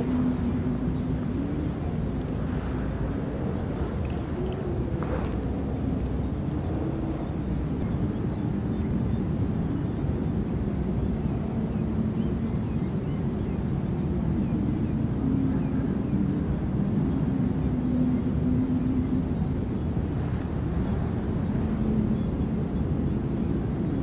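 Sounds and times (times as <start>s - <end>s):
distant engine droning: 0.0s - 24.0s.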